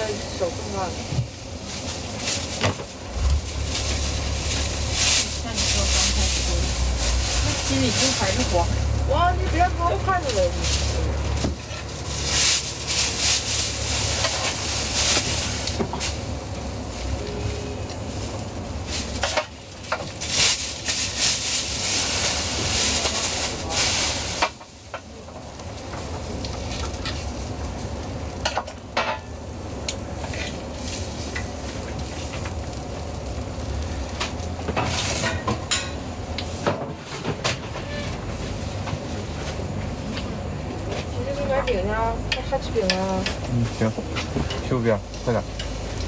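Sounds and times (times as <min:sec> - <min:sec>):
food sizzling in hot oil: 0:00.0 - 0:36.7, 0:41.8 - 0:46.0.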